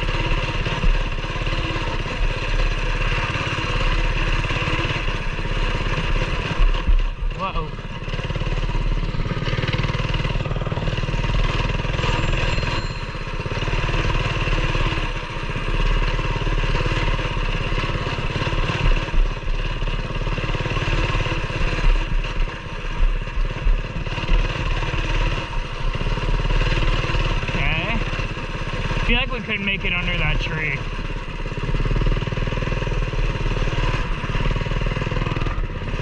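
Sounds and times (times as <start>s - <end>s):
mini bike engine revving: 0.0s - 36.0s.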